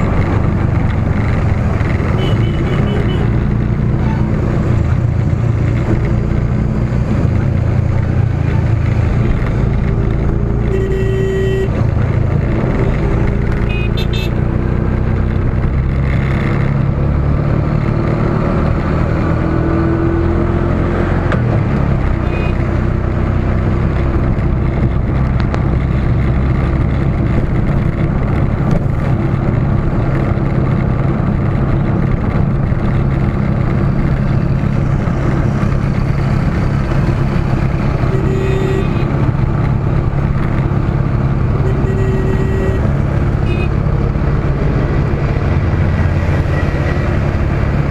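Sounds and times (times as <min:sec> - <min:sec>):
road and wind noise: 0:00.0 - 0:47.9
vehicle engine drone: 0:00.0 - 0:47.9.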